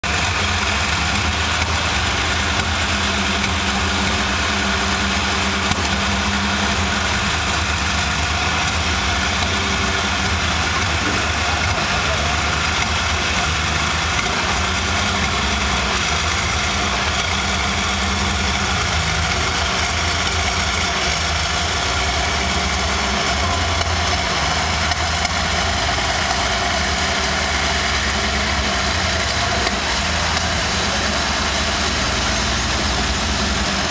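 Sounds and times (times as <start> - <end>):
tracked vehicle engine idling: 0.0 - 33.9.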